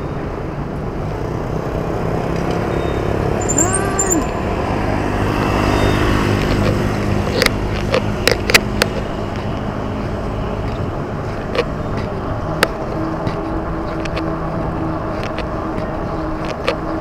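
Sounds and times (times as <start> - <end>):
vehicle engine running: 1.6 - 17.0.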